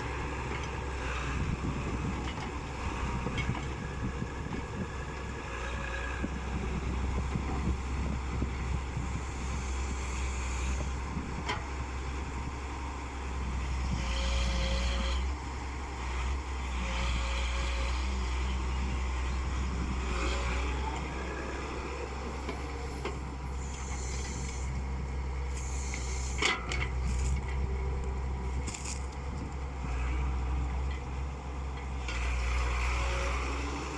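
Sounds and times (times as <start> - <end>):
diesel engine rumbling: 0.0 - 33.9.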